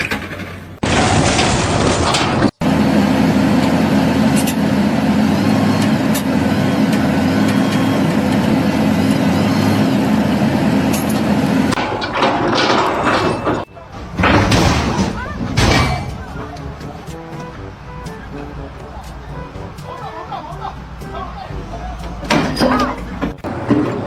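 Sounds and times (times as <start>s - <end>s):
heavy vehicle engine running: 0.6s - 24.0s.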